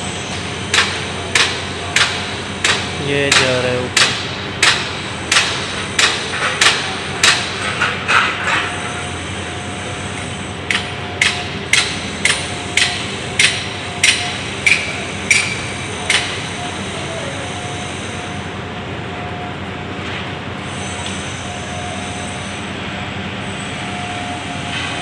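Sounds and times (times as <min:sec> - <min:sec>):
construction machine hum: 0:00.0 - 0:25.0.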